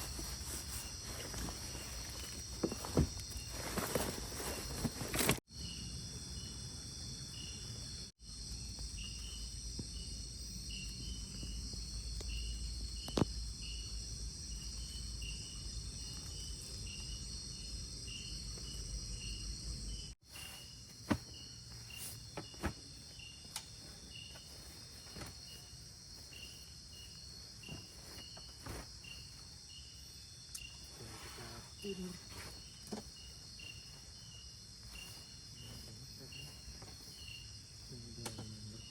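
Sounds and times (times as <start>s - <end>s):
cricket chirping: 0.0s - 38.9s
insects droning: 0.0s - 38.9s.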